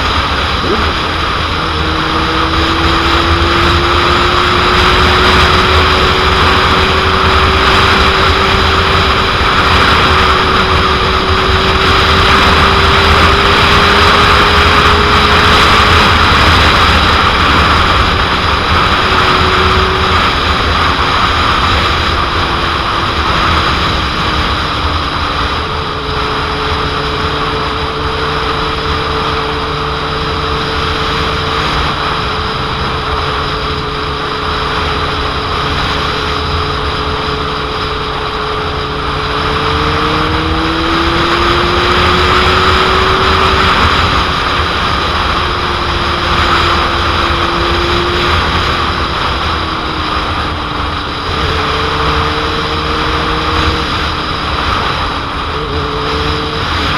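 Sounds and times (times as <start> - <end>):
motorcycle engine cruising: 0.0 - 56.9
wind rushing on microphone: 0.0 - 56.9.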